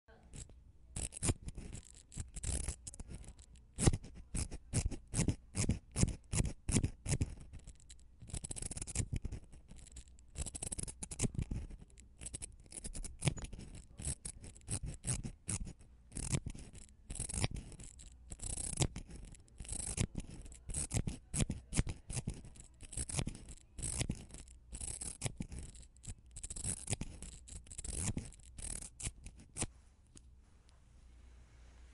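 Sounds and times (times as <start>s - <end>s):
mascara wand brushing: 0.2s - 30.8s.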